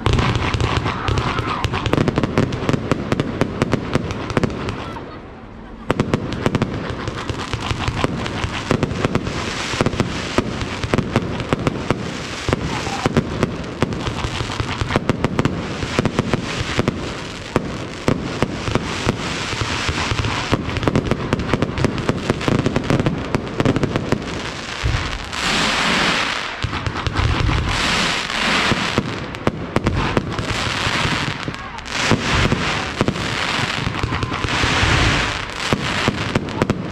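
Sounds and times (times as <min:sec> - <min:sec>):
deep fireworks booms: 0:00.0 - 0:05.2, 0:05.8 - 0:36.9
fireworks cracks and bangs: 0:00.0 - 0:36.9
fireworks hissing crackle: 0:00.0 - 0:36.9.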